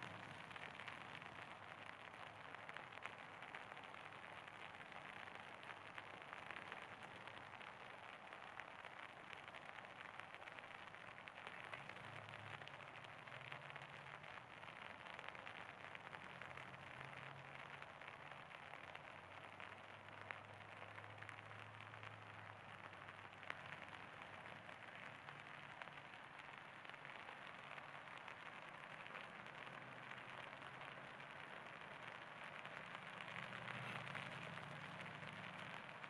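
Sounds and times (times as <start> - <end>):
faint rain patter: 0.0 - 36.0.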